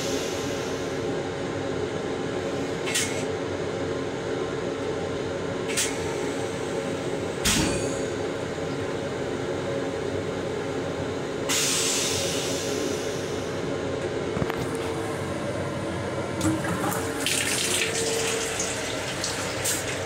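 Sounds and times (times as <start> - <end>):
train rumble and hum: 0.0 - 20.0.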